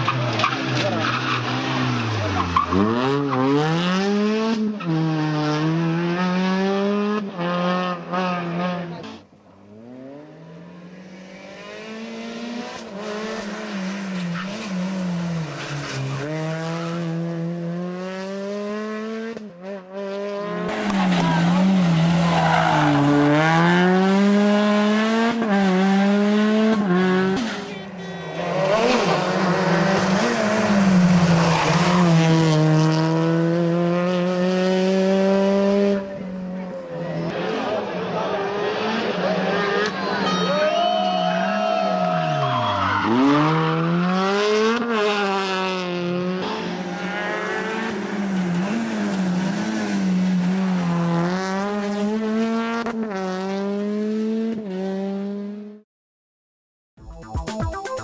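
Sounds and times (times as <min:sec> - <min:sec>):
rally car engine at full throttle: 0:00.0 - 0:55.8.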